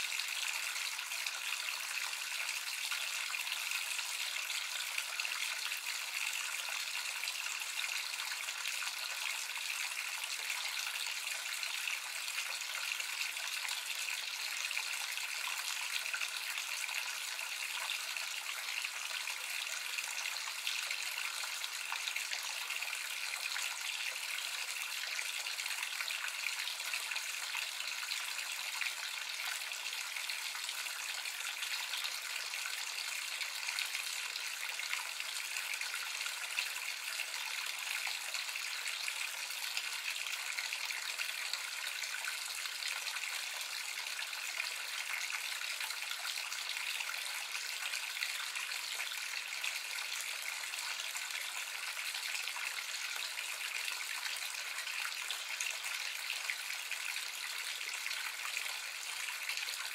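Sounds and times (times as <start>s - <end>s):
water running from bath tap: 0.1s - 59.9s.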